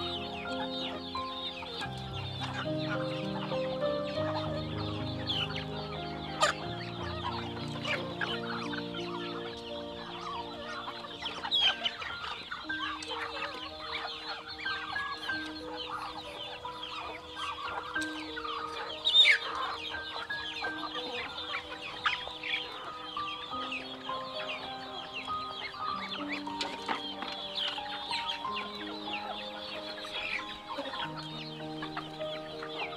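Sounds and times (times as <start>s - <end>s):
chickens clucking: 0.0s - 32.9s
music of held notes: 0.0s - 32.9s.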